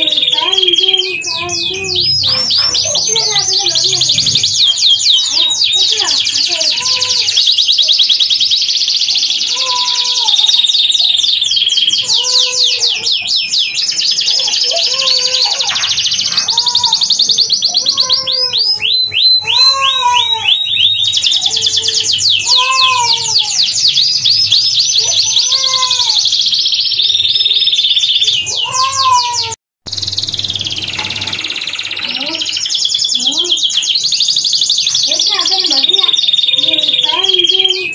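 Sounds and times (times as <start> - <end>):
canary singing trills: 0.0 - 37.9.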